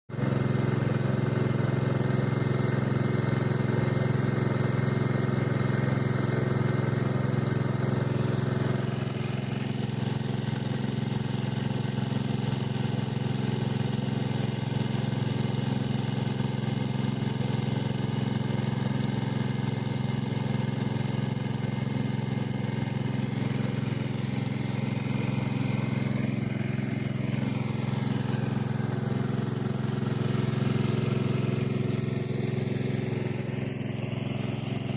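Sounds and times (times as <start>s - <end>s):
water pump engine running: 0.1s - 34.9s.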